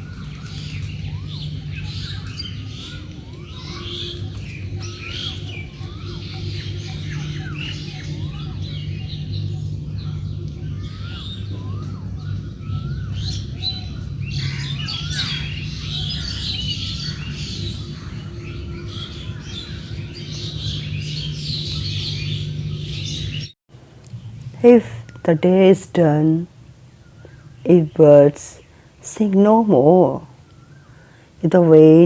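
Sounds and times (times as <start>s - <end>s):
birds chirping and whistling: 0.0s - 32.0s
steady low hum: 0.0s - 32.0s.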